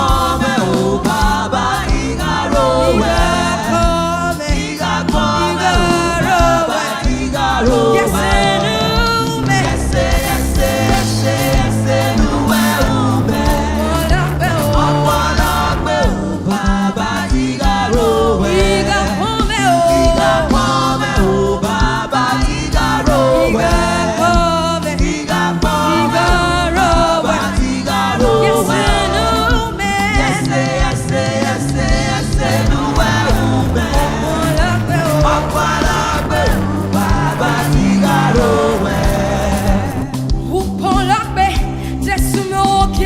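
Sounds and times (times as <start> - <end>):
band with steady bass line: 0.0 - 43.0
voices singing gospel: 0.0 - 43.0.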